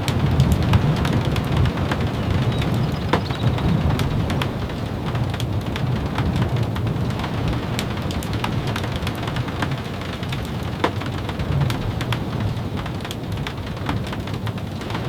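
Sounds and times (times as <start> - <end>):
rain with sharp drips: 0.0 - 15.0.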